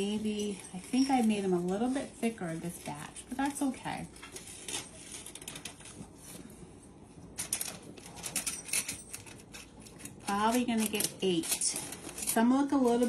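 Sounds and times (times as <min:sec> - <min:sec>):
plastic gloves and foil crinkling: 0:00.0 - 0:13.0.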